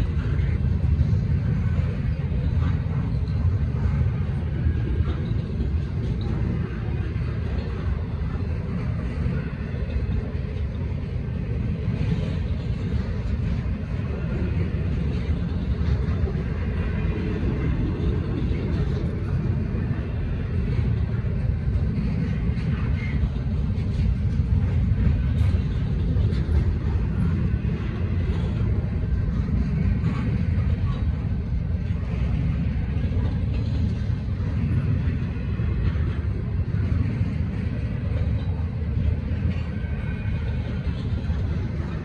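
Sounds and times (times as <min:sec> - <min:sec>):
freight train wheels rumbling on rail: 0:00.0 - 0:42.0
train clatter: 0:00.0 - 0:42.0.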